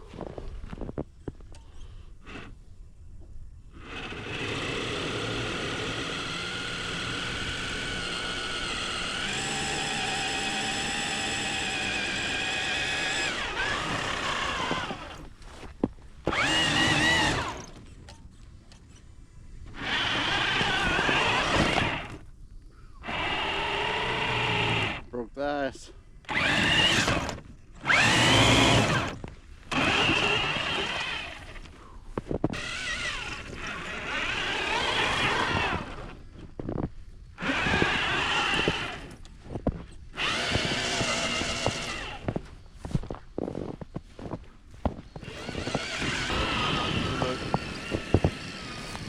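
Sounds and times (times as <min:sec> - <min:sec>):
electric motor whining: 0:03.8 - 0:15.4, 0:16.2 - 0:17.8, 0:19.6 - 0:22.3, 0:23.0 - 0:25.1, 0:26.2 - 0:31.7, 0:32.4 - 0:49.0.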